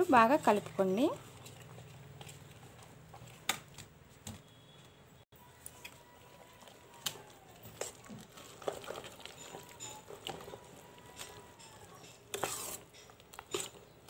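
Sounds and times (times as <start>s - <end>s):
batter squelching: 0.0s - 4.2s, 5.4s - 14.0s.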